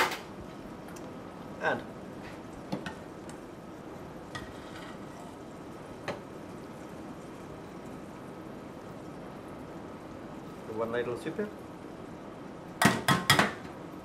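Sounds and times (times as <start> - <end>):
water boiling: 0.1 - 14.0.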